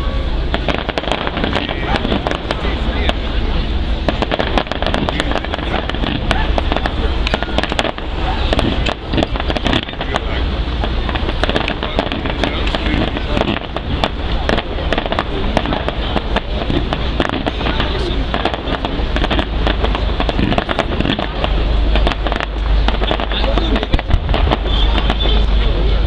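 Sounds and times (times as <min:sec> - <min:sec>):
strong low rumble: 0:00.0 - 0:26.0
fireworks bangs and crackles: 0:00.4 - 0:26.0.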